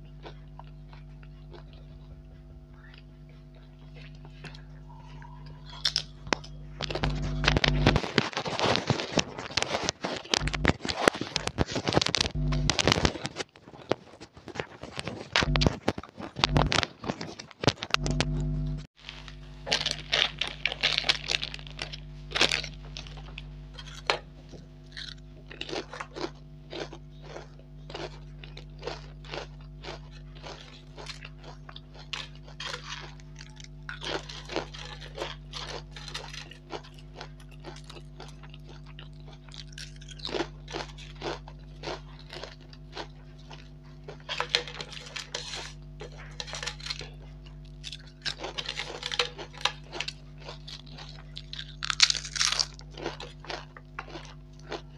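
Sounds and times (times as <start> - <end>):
potato chips crunching: 0.0 - 54.9
steady low hum: 0.0 - 54.9
foil packet crinkling: 5.7 - 18.0, 19.0 - 24.2, 27.3 - 54.8.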